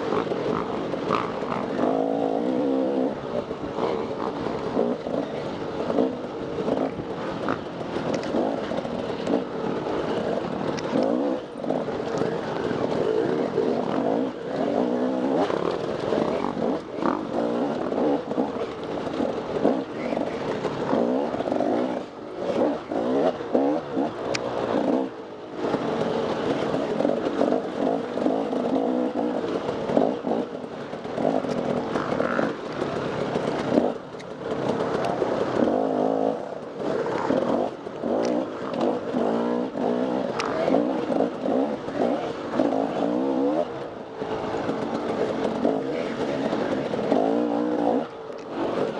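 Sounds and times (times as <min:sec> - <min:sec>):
dirt bike engine revving: 0:00.0 - 0:34.0, 0:34.6 - 0:48.9.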